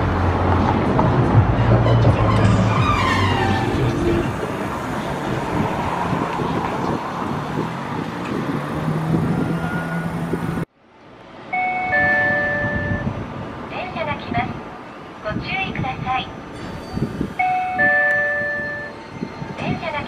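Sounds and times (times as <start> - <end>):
streetcar humming: 0.0 - 20.0.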